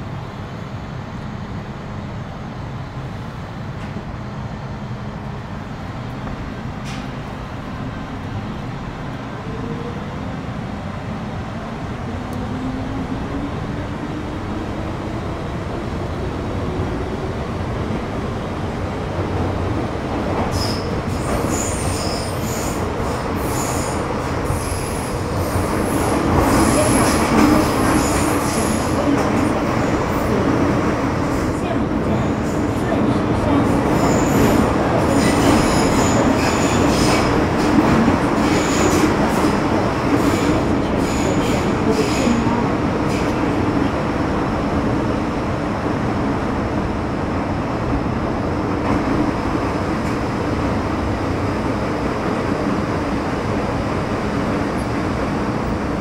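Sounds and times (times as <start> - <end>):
train running rumble: 0.0 - 56.0.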